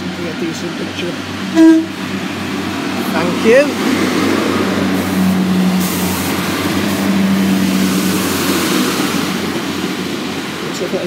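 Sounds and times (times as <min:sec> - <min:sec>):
diesel train passing: 0:00.0 - 0:11.0.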